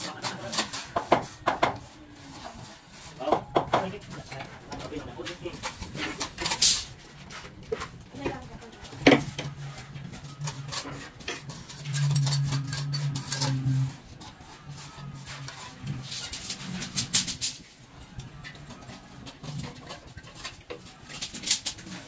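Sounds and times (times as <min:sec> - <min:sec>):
trowel scraping and tapping mortar: 0:00.0 - 0:22.0.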